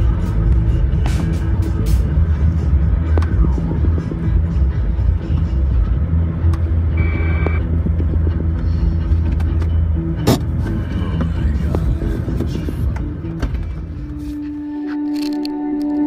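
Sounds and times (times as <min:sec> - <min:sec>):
car engine low rumble: 0:00.0 - 0:14.8.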